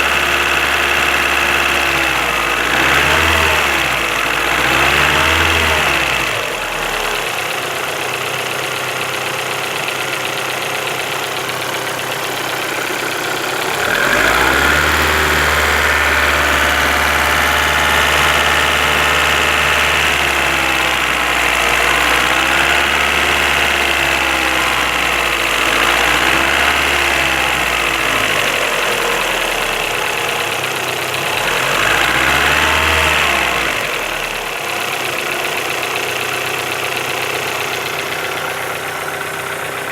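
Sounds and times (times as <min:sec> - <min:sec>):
car engine revving: 0:00.0 - 0:07.6, 0:11.4 - 0:39.9
engine knocking: 0:00.0 - 0:39.9.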